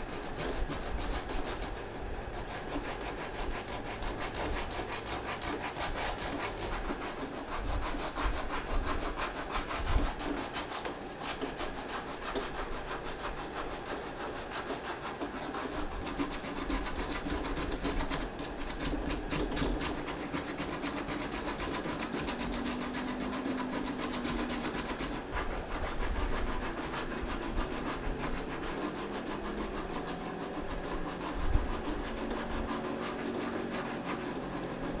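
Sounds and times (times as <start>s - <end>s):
eraser rubbing on suede: 0.0s - 35.0s.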